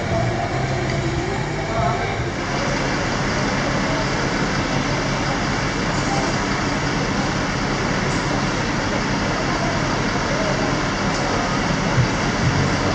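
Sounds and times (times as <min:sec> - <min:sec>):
traffic rumble: 0:00.0 - 0:12.9.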